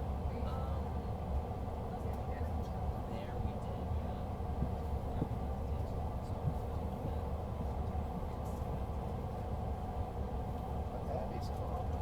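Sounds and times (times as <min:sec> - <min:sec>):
faint passenger chatter: 0:00.1 - 0:12.0.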